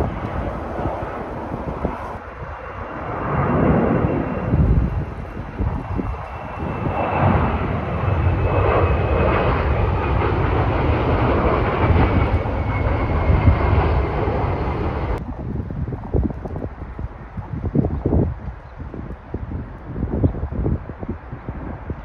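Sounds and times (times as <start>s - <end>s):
high jet whine: 0.0s - 17.6s
jet airliner passing overhead: 0.0s - 22.0s.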